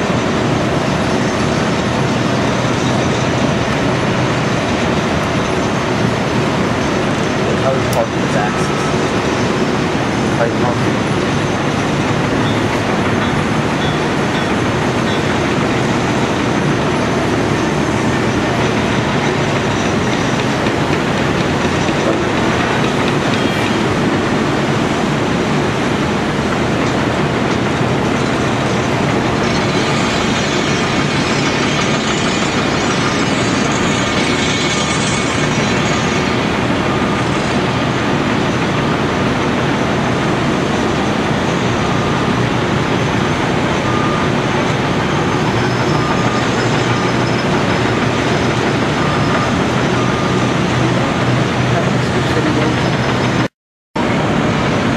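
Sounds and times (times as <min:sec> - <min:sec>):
diesel excavator engine running: 0:00.0 - 0:54.9
high-pitched whine: 0:00.0 - 0:54.9.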